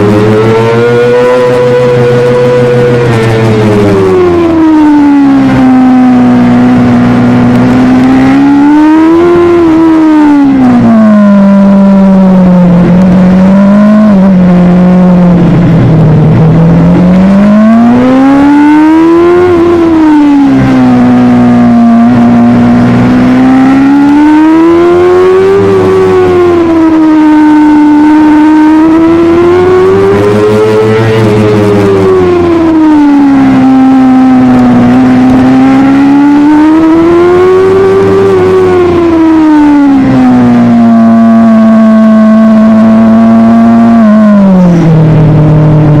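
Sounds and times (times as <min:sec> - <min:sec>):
motorcycle engine at high revs: 0:00.0 - 0:46.0.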